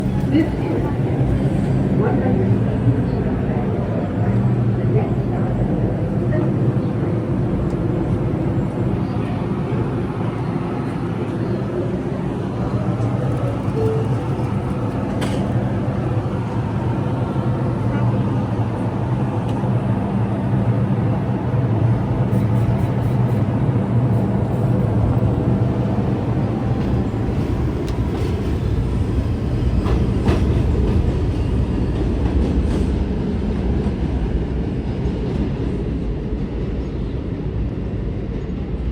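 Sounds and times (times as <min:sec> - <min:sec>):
subway train running on rails: 0:00.0 - 0:38.9.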